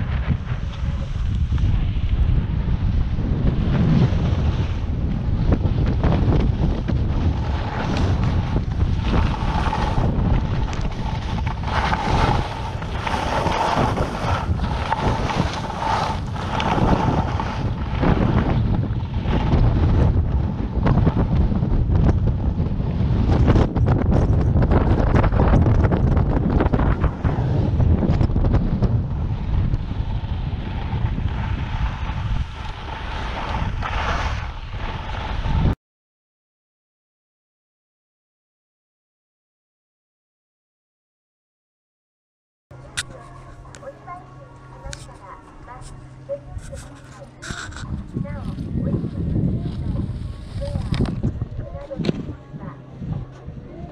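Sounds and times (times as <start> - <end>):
skis carving on snow: 0.0 - 35.8, 42.8 - 53.9
wind buffeting microphone: 0.0 - 35.8, 42.7 - 53.9.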